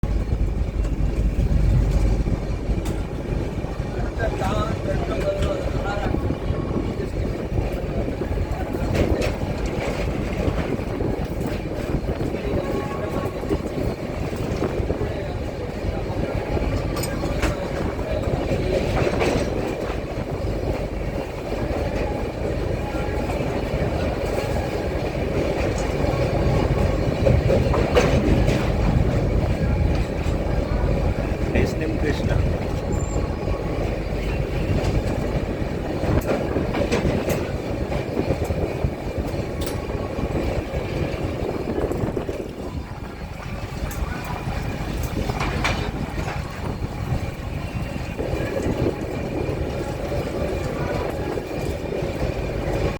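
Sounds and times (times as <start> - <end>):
train rumble: 0.0 - 52.9
train wheels clicking: 0.0 - 52.9.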